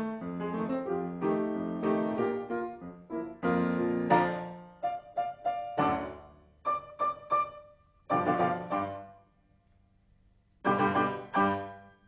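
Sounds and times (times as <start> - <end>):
piano chords and staccato notes: 0.0 - 9.1, 10.7 - 12.0.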